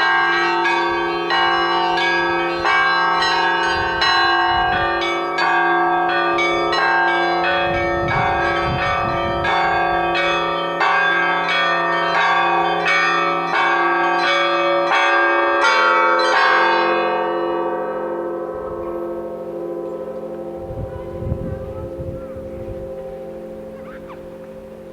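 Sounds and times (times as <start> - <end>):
large bells humming: 0.0 - 24.9.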